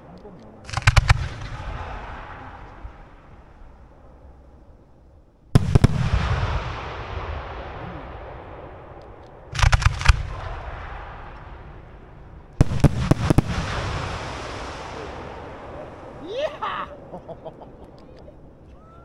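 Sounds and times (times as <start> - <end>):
fireworks cracking: 0.0 - 5.0, 5.6 - 19.0
rolling echo: 0.0 - 19.0.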